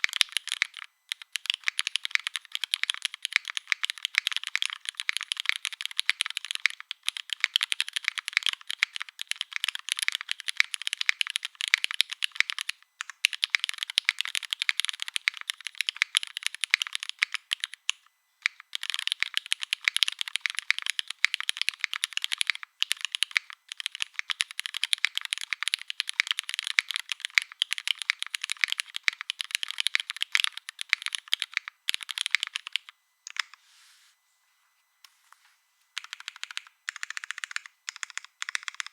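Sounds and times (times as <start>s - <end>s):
mechanical keyboard typing: 0.0s - 33.6s, 36.0s - 38.9s.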